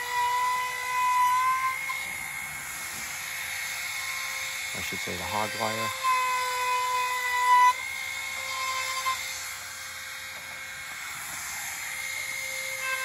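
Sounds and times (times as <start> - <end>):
router high whine: 0.0 - 13.0.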